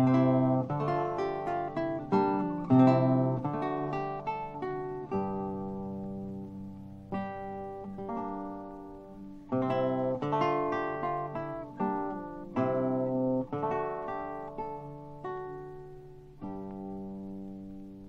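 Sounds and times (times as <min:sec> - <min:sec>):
solo lute playing: 0:00.0 - 0:18.0.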